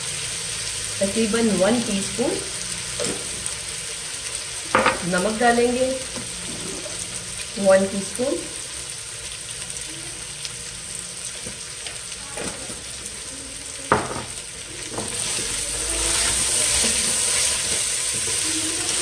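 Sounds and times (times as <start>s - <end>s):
potatoes sizzling in oil: 0.0s - 19.0s.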